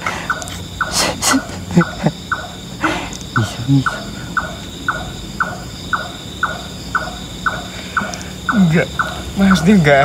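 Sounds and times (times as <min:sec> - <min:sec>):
high drone of insects: 0:00.0 - 0:10.0.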